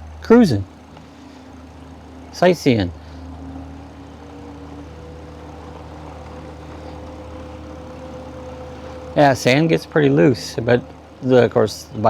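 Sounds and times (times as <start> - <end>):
electric motor whine: 0.0 - 12.0
tyres rumbling on sand: 0.3 - 12.0.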